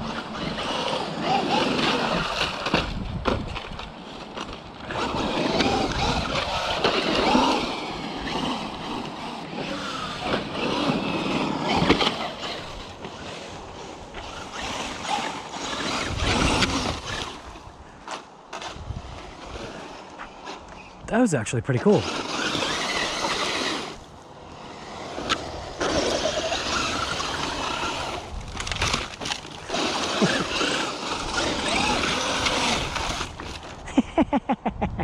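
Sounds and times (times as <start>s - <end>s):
rc truck motor whine: 0.0s - 20.9s, 22.0s - 33.8s
tyre and ground noise: 0.0s - 35.0s.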